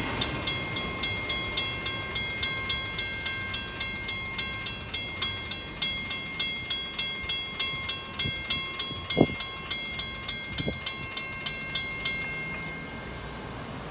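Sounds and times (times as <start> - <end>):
crossing bell ringing: 0.0 - 13.9.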